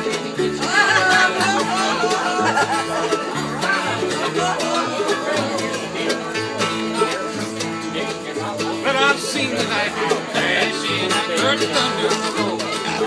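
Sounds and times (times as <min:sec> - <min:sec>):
bluegrass string band playing: 0:00.0 - 0:13.0.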